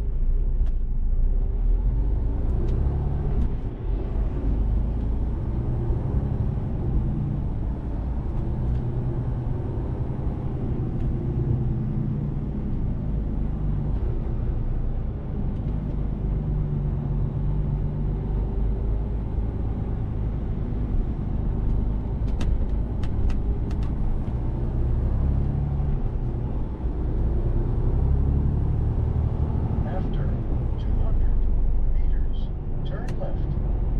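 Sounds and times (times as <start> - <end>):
truck diesel engine drone: 0.0 - 33.9.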